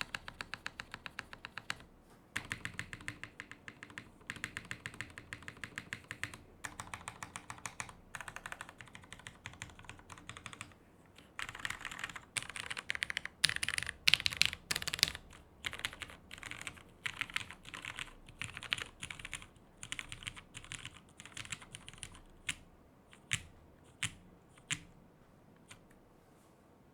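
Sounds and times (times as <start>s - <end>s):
mechanical keyboard typing: 0.0s - 24.9s.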